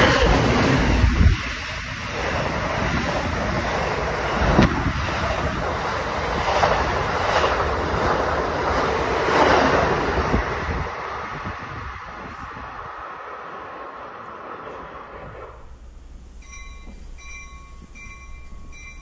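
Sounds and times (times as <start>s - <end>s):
passenger train rushing past: 0.0s - 19.0s
wind buffeting microphone: 0.0s - 19.0s.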